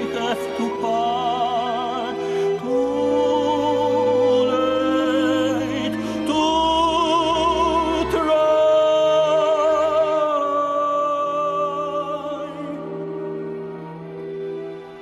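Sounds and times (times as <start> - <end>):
operatic singing voice: 0.0 - 15.0.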